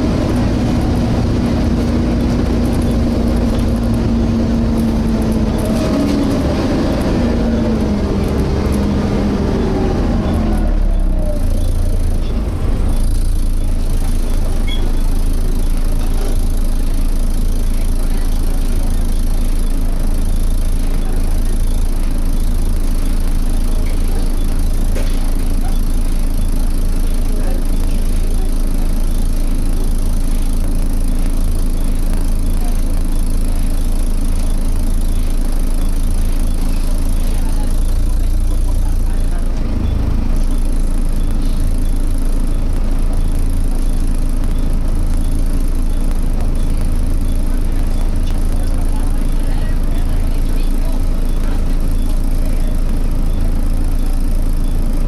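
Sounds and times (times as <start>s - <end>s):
bus diesel engine running: 0.0s - 55.0s
cooling fan whine: 0.0s - 55.0s.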